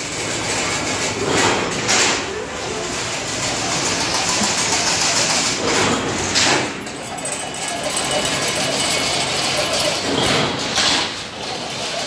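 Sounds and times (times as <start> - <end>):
fence machine running: 0.0 - 12.0.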